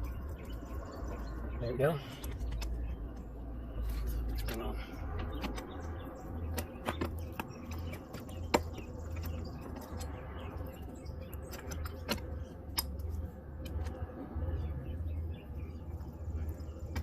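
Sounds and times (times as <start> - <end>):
low pulsing rumble: 0.0 - 17.0.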